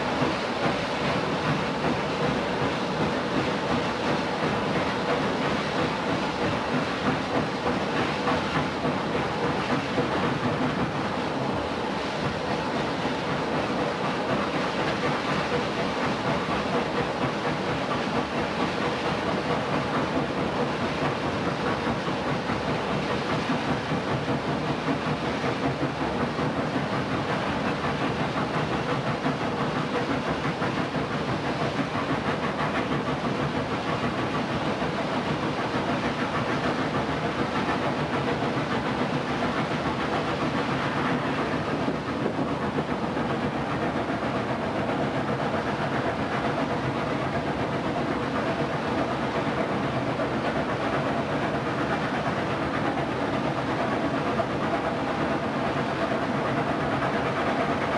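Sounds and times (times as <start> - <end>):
moving train rumbling: 0.0 - 57.9.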